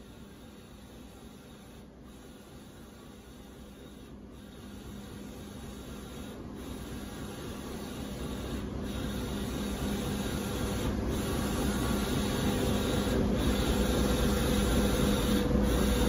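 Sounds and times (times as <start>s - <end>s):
printer carriage whirring hiss: 0.0s - 16.0s.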